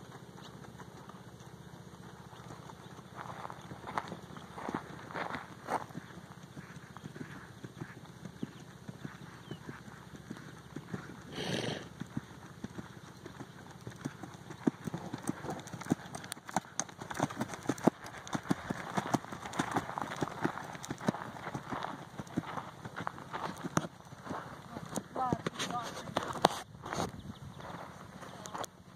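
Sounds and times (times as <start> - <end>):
horse hoofbeats on dirt: 0.0 - 28.9.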